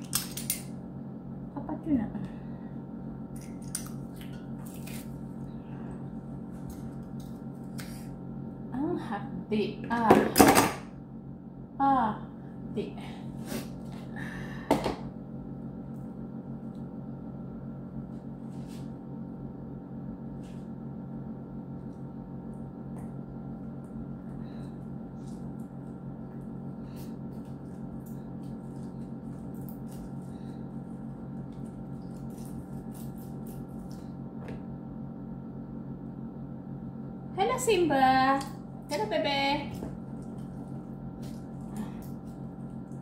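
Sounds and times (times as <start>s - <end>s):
appliance humming: 0.0s - 43.0s.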